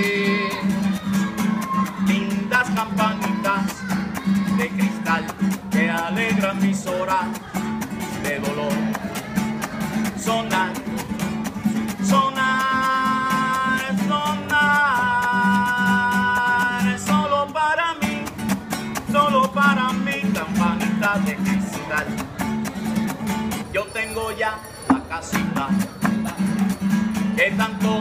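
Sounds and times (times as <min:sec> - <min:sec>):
solo acoustic guitar: 0:00.0 - 0:28.0.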